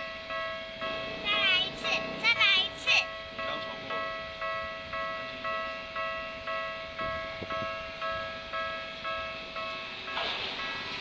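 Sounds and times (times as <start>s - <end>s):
level crossing bell ringing: 0.0s - 11.0s.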